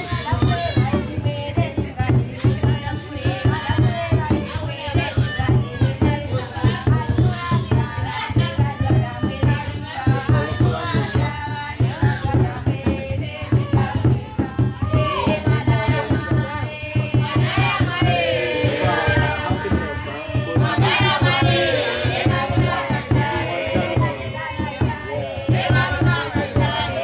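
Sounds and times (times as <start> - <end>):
fast hand-drumming: 0.0 - 27.0
group singing together: 0.0 - 27.0.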